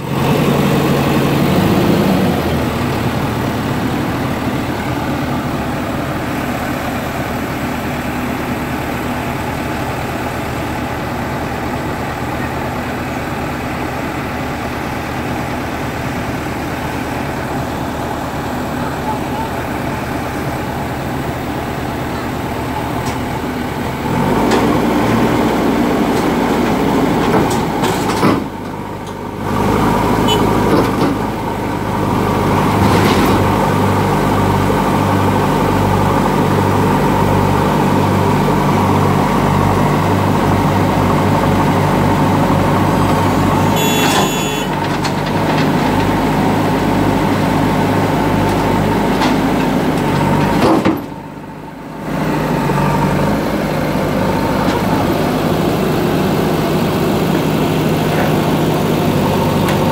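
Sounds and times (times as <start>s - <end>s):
diesel engines throbbing: 0.0s - 59.9s.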